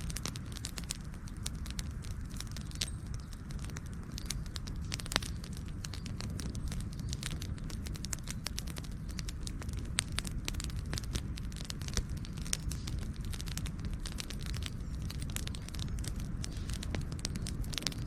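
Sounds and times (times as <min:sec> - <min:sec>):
low rumble of flames: 0:00.0 - 0:18.0
wood crackling and popping: 0:00.0 - 0:18.0.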